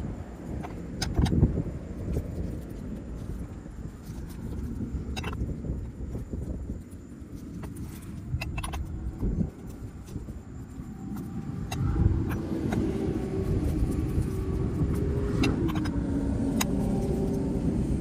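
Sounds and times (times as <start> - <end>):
motor vehicle rumbling: 0.0 - 18.0.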